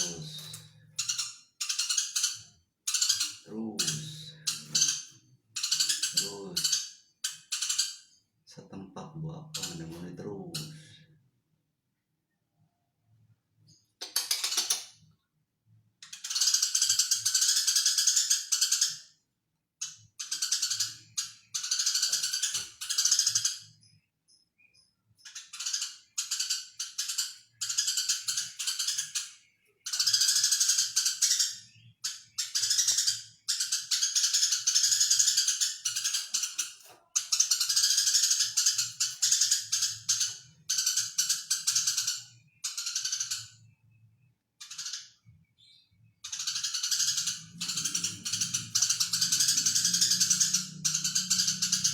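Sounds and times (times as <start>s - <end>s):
sparrow chirping: 0.0s - 8.4s, 9.3s - 10.9s, 16.0s - 19.2s, 19.8s - 51.9s.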